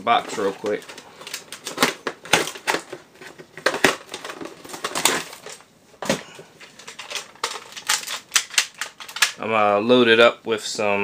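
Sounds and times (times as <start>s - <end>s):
packaging clicks snaps and crinkles: 0.3s - 9.4s.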